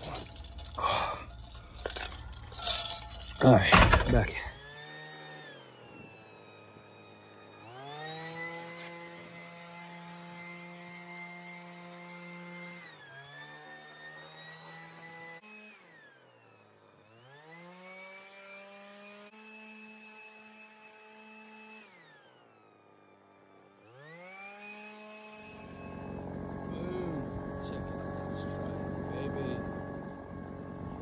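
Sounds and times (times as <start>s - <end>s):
leaf blower running: 0.0s - 31.0s.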